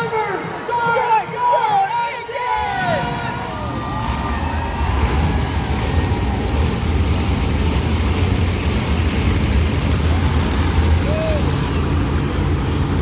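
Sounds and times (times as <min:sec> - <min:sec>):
monster truck engines rumbling: 0:02.2 - 0:13.0.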